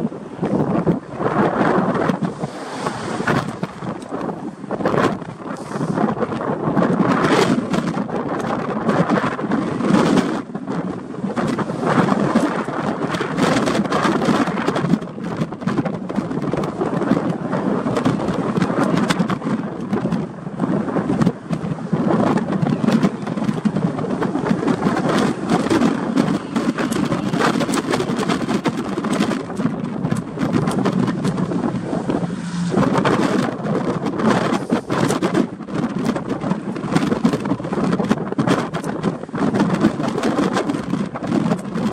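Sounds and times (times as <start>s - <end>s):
wind blasting over microphone: 0.0s - 41.9s.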